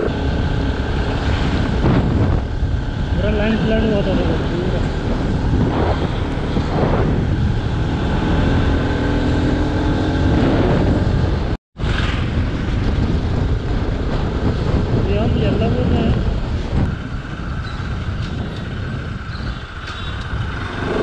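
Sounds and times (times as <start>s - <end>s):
motorcycle engine running: 0.0s - 11.6s, 12.5s - 21.0s
wind noise on microphone: 0.0s - 21.0s.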